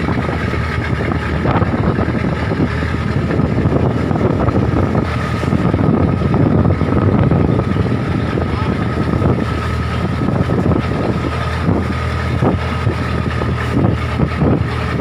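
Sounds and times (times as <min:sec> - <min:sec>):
boat engine running: 0:00.0 - 0:15.0
waves splashing against hull: 0:00.0 - 0:15.0.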